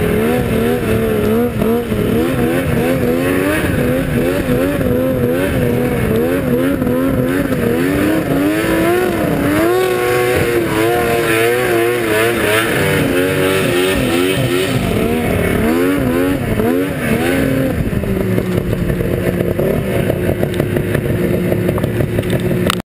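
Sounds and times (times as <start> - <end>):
snowmobile engine revving: 0.0 - 22.8.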